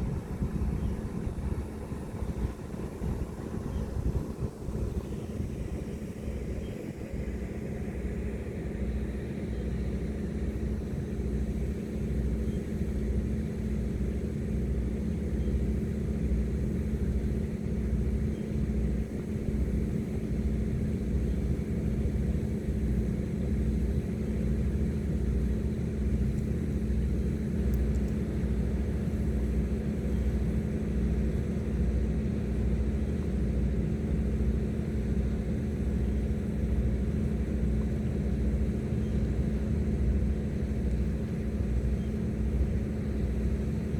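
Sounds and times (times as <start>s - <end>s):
boat engines droning: 0.0s - 43.9s.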